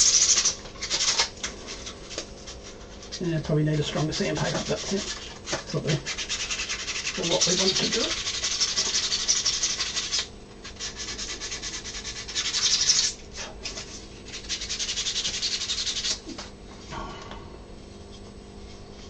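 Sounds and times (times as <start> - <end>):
sandpaper scratching on plastic: 0.0 - 16.2.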